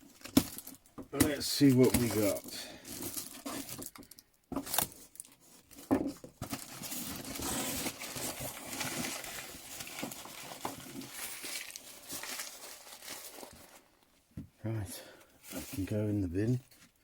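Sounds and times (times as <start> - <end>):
packing material crinkling and tearing: 0.0 - 14.0.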